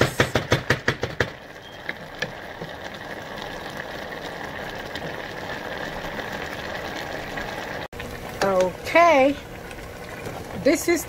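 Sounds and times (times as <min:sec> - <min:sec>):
vegetables simmering in a pot: 0:00.2 - 0:11.0.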